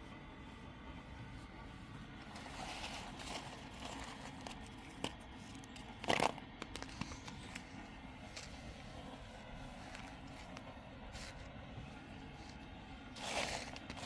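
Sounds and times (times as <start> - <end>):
crackling rustle: 1.4 - 14.0.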